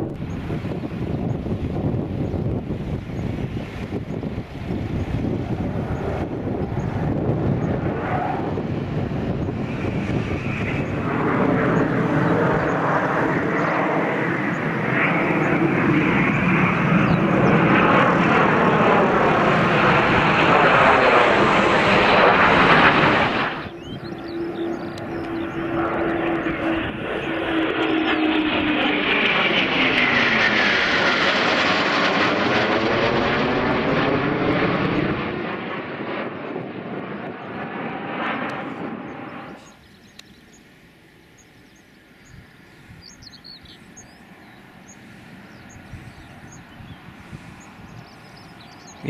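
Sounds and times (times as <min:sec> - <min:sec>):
faint jet drone: 0:00.0 - 0:49.0
jet flying overhead: 0:00.0 - 0:49.0.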